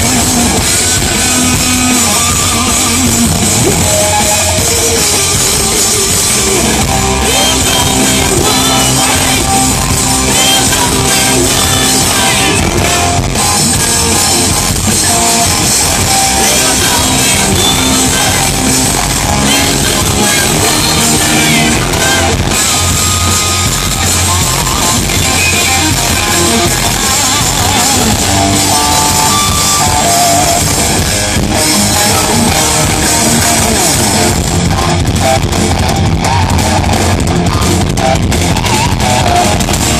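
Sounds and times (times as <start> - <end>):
person singing: 0.0 - 35.4
drum kit: 0.0 - 39.9
electric guitar: 0.0 - 39.9.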